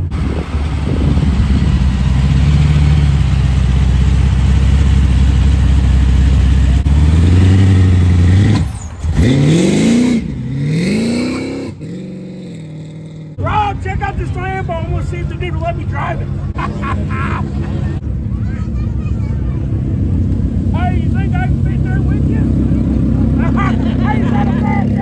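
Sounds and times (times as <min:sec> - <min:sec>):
car engine rumbling and accelerating: 0:00.0 - 0:25.0.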